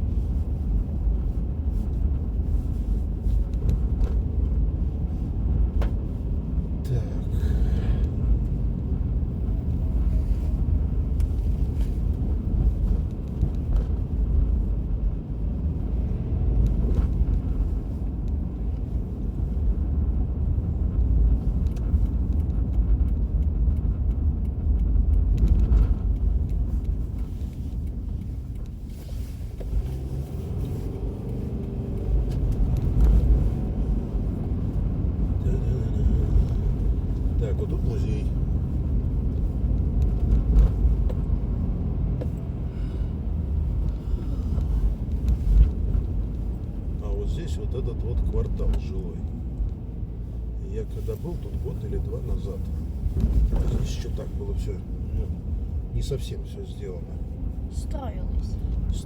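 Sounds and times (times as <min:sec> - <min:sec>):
engine and tyres rumbling: 0:00.0 - 0:59.0.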